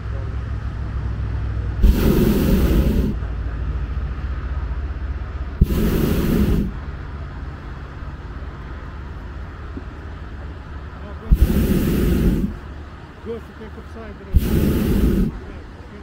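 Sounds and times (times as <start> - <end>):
propane burner hissing blasts: 0.0 - 9.2, 10.3 - 16.0
low rumble: 0.0 - 16.0.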